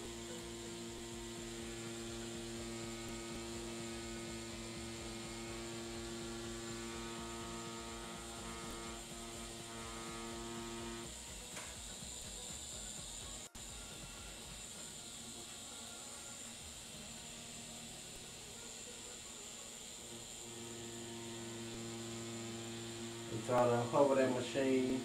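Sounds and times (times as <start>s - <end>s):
tattoo machine buzzing: 0.0s - 25.0s.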